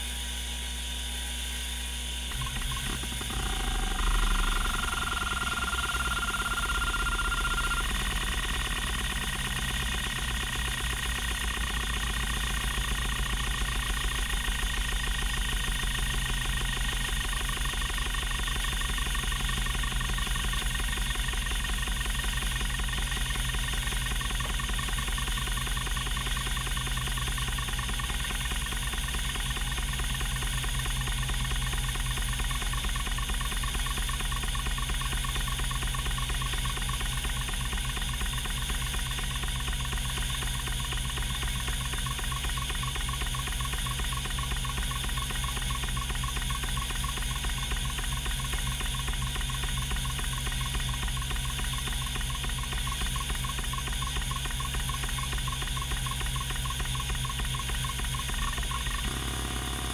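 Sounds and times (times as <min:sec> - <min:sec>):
hard drive spindle spinning: 0:02.3 - 0:59.9
hard drive actuator chattering: 0:02.4 - 0:59.9.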